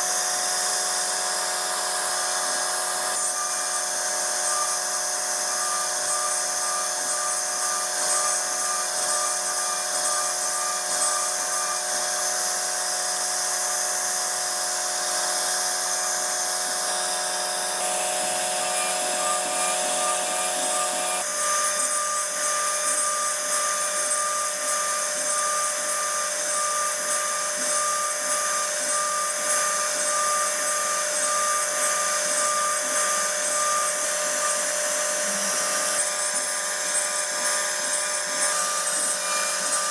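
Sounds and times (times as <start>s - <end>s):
router spindle whining into wood: 0.0s - 39.9s.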